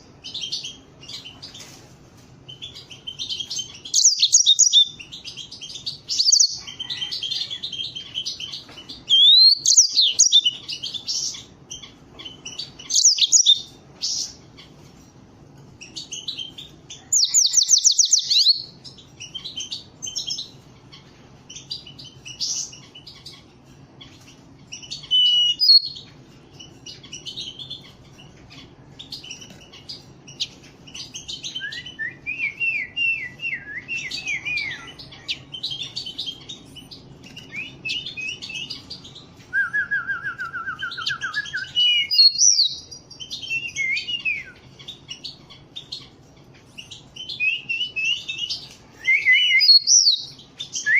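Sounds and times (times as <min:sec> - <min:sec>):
canaries singing: 0:00.0 - 0:50.9.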